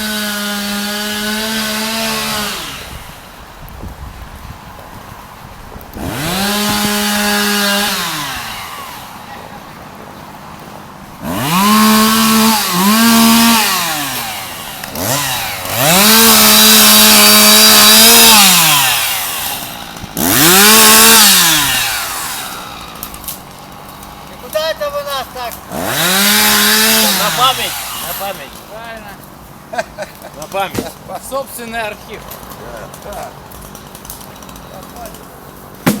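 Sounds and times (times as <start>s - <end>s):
chainsaw revving: 0.0s - 3.3s, 5.9s - 10.0s, 11.0s - 35.2s.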